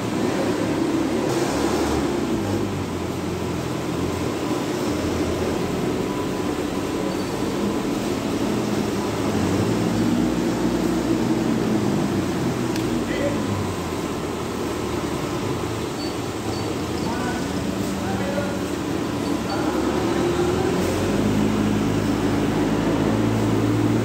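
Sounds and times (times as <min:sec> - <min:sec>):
vehicle engines humming: 0:00.0 - 0:24.0.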